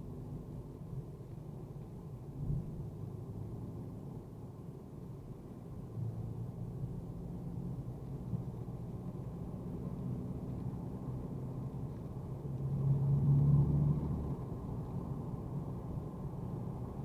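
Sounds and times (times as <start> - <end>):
road noise: 0.0 - 17.0
car engine drone while driving: 0.1 - 17.0.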